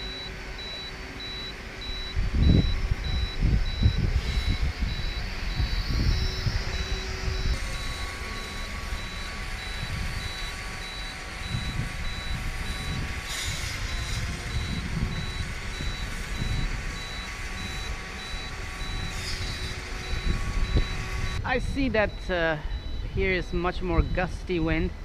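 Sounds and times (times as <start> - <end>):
high-pitched beeps: 0.0 - 13.1, 13.8 - 24.4
quadcopter motors whining: 0.0 - 24.2
wind buffeting microphone: 1.6 - 25.0.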